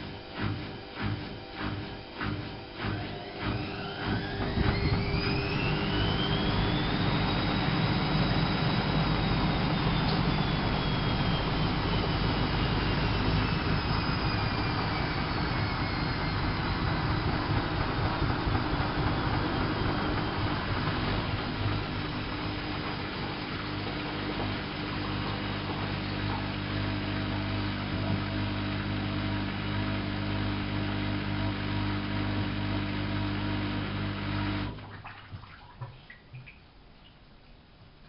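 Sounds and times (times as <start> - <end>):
washing machine motor whine: 0.0 - 35.2.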